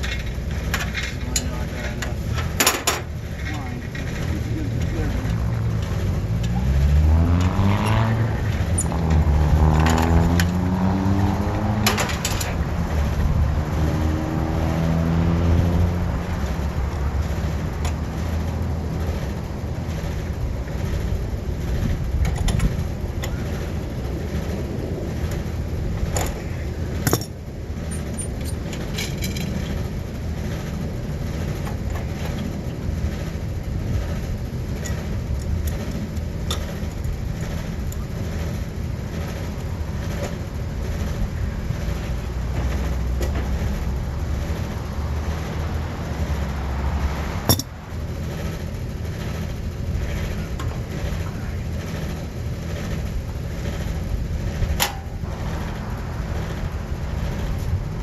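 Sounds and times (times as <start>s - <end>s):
road rumble: 0.0s - 58.0s
vehicle engine accelerating: 3.3s - 27.2s, 35.0s - 58.0s.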